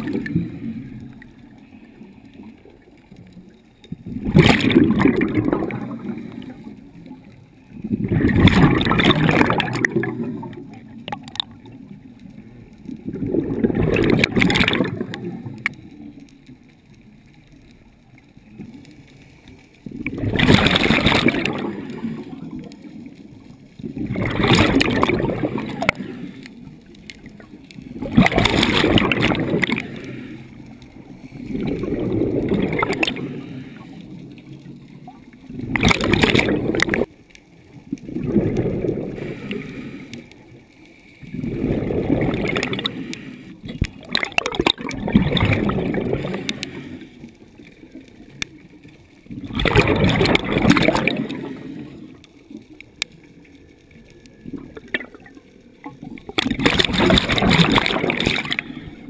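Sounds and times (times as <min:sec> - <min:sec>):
underwater bubbles gurgling: 0:00.0 - 0:59.0.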